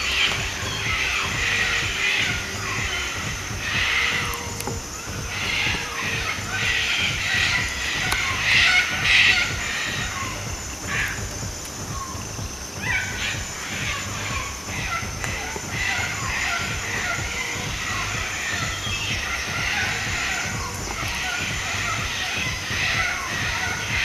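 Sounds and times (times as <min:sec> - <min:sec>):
cockatoos screeching: 0:00.0 - 0:24.0.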